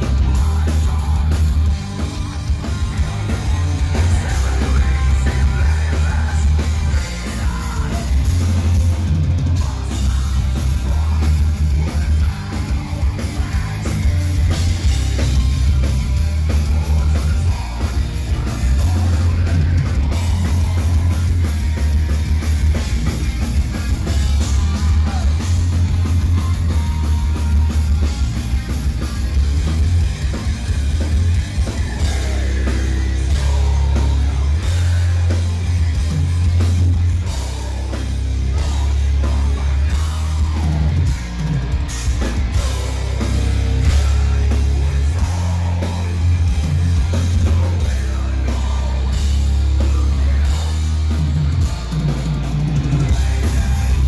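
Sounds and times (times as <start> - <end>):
booming bass line: 0.0 - 54.0
heavy rock music: 0.0 - 54.0.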